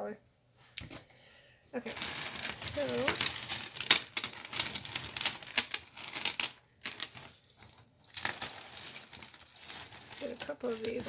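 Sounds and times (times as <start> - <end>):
beads and chains clicking: 1.9 - 11.0.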